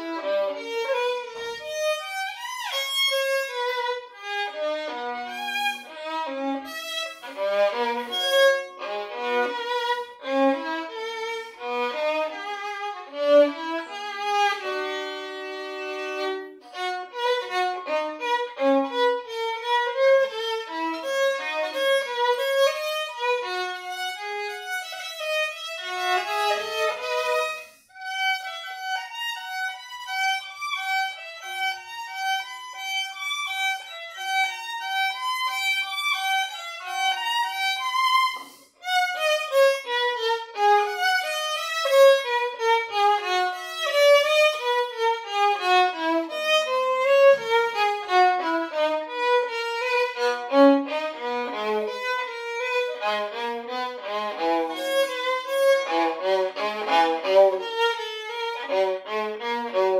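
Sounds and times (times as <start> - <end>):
solo violin melody: 0.0 - 59.9.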